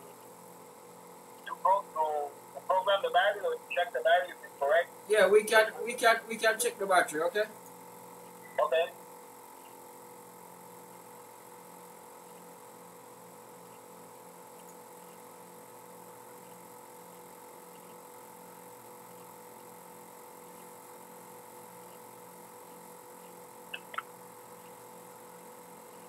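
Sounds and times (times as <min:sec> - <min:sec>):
faint electrical hum: 0:00.0 - 0:26.0
faint pulsing buzz: 0:00.0 - 0:26.0.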